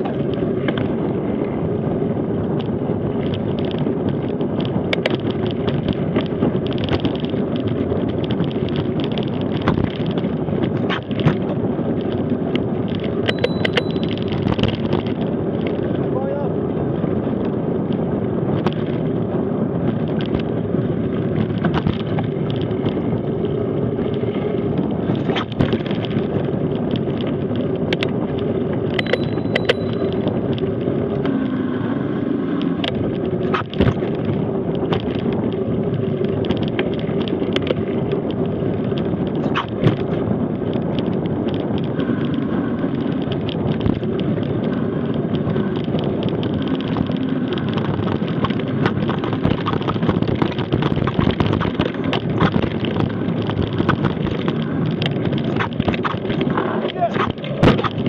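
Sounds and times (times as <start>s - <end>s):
bike knocking and rattling: 0.0s - 58.0s
tyres rolling over gravel: 0.0s - 58.0s
wind rushing on microphone: 0.0s - 58.0s.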